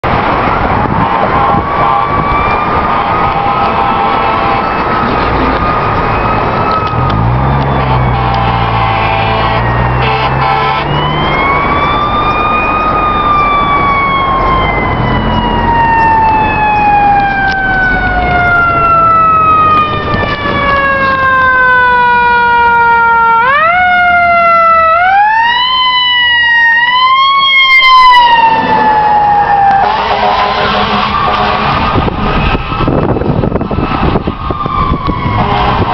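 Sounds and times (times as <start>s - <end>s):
fire truck siren wailing: 0.0s - 35.9s.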